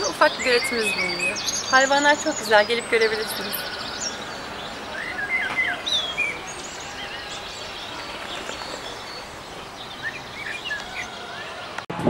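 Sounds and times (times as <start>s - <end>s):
small birds chirping: 0.0s - 11.8s
outdoor background hiss: 0.0s - 12.0s.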